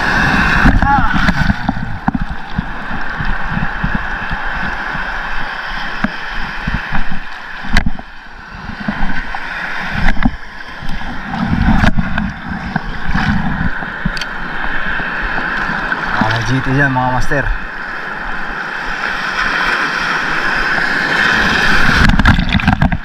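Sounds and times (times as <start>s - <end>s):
sea water sloshing: 0.0s - 23.0s
wind rumbling on microphone: 0.0s - 23.0s.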